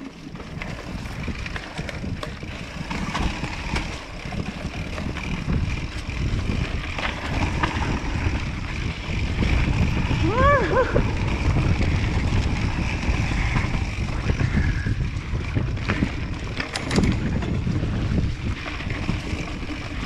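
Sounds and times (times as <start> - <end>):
bike frame and chain rattling: 0.0 - 20.0
wind rushing over microphone: 0.0 - 20.0.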